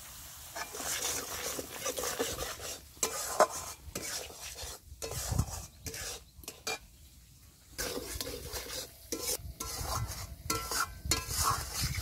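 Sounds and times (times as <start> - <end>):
oil sizzling: 0.0 - 6.9, 7.7 - 12.0
metal spatula scraping a pan: 0.4 - 6.9, 7.8 - 12.0.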